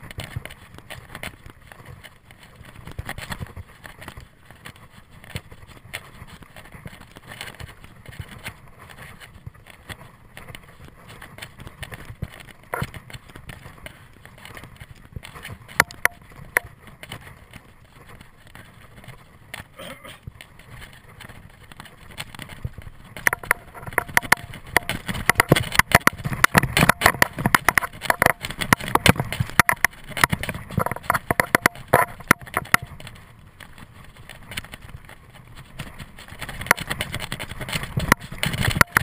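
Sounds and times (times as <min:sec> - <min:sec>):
bike rattling over bumps: 0:00.0 - 0:39.0
bike tyres rushing over dirt: 0:00.0 - 0:39.0.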